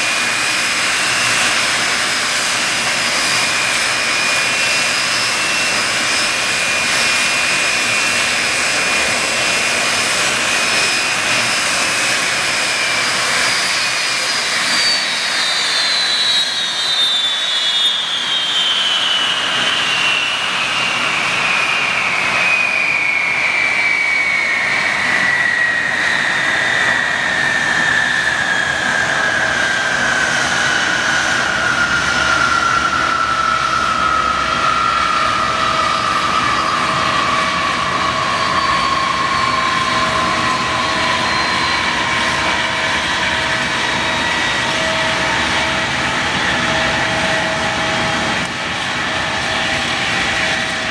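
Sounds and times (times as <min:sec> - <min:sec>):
jet engine whine: 0:00.0 - 0:50.9
jet engines roaring: 0:00.0 - 0:50.9.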